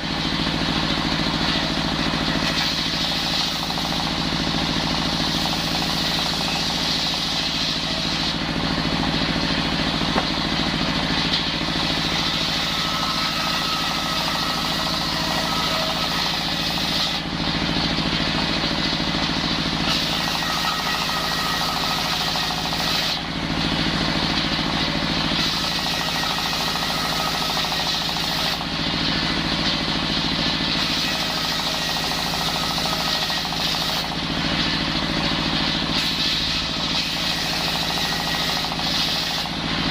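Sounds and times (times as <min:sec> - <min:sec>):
circular saw cutting timber: 0:00.0 - 0:39.9.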